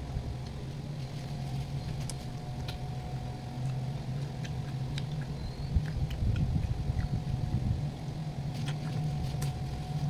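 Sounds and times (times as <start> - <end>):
low mechanical hum: 0.0 - 10.0
faint chewing clicks: 0.4 - 7.5, 8.4 - 10.0.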